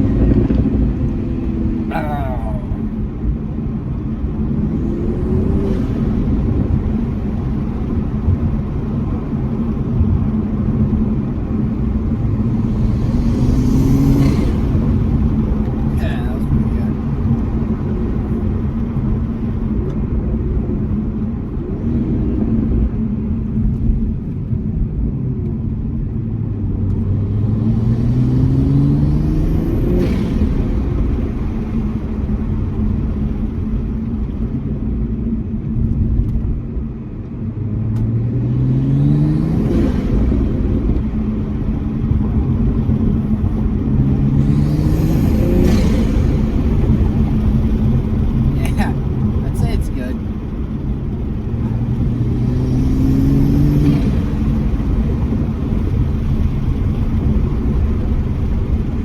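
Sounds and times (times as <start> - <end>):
turbocharged car engine accelerating: 0.0 - 24.7, 25.5 - 34.7, 37.4 - 59.0.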